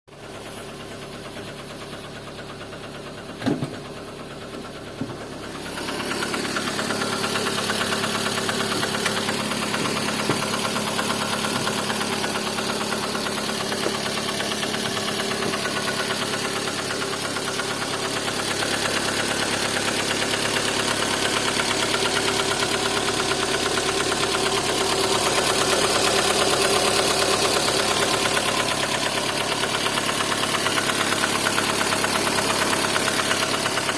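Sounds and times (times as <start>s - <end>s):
car engine knocking: 0.2s - 33.9s
fast even engine ticking: 5.4s - 33.9s.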